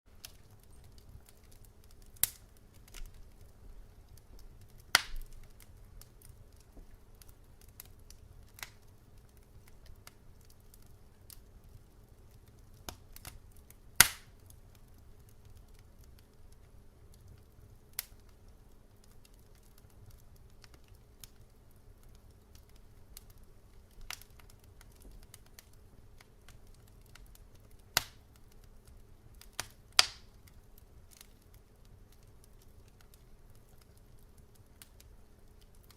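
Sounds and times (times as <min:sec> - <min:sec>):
logs crackling in fireplace: 0:00.1 - 0:35.9.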